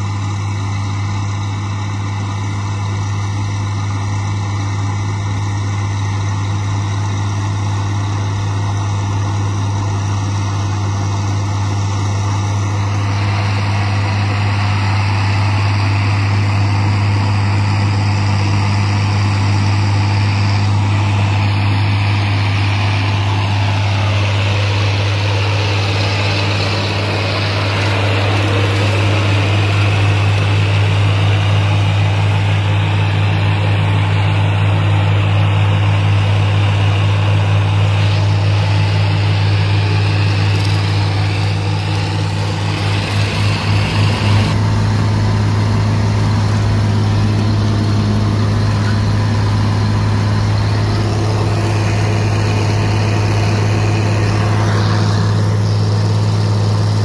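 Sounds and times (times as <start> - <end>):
rotary cutter humming: 0.0 - 57.0
tractor engine droning: 0.0 - 57.0.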